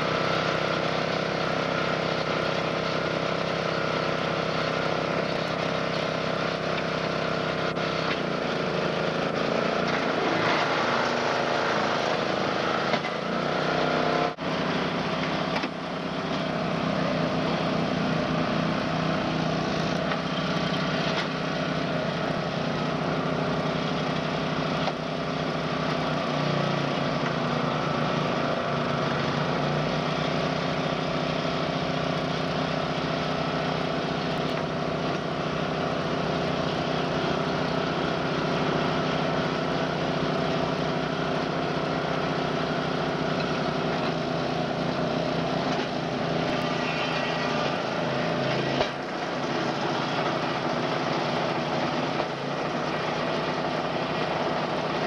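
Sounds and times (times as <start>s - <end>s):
baler engine running: 0.0s - 55.0s.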